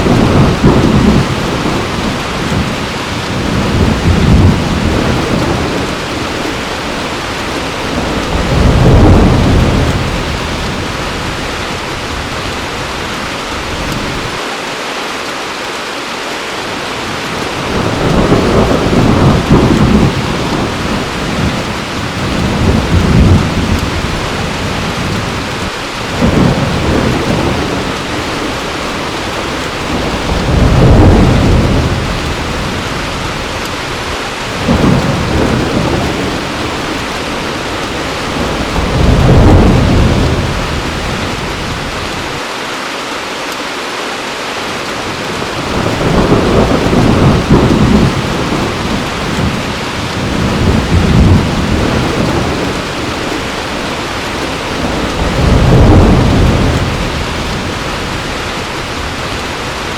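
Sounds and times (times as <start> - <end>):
thunder rumbling: 0.0 - 14.4, 16.9 - 42.4, 45.0 - 59.9
heavy rain falling: 0.0 - 59.9.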